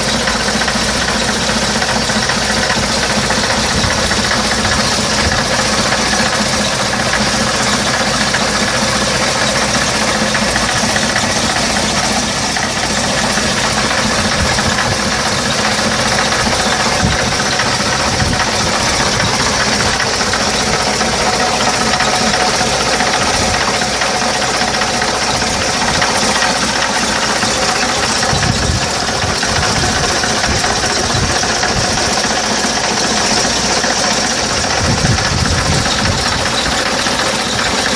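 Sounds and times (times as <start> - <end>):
diesel bus engine idling: 0.0 - 37.9.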